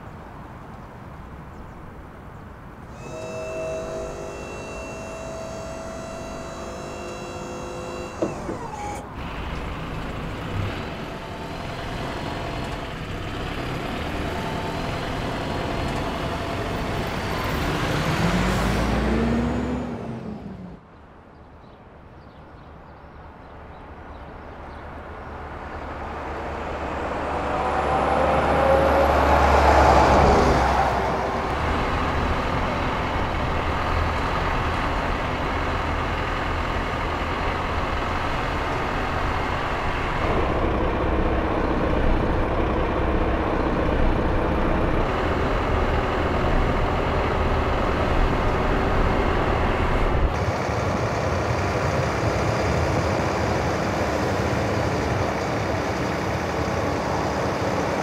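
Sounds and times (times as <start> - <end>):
truck engine: 0.0 - 21.3, 23.2 - 58.0.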